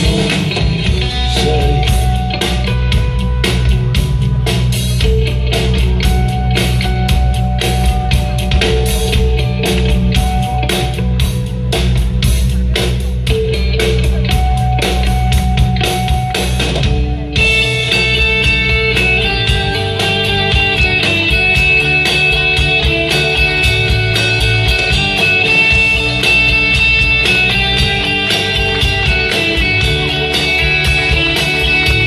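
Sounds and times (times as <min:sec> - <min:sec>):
live rock band playing: 0:00.0 - 0:32.0
ringing guitar chords: 0:00.0 - 0:32.0.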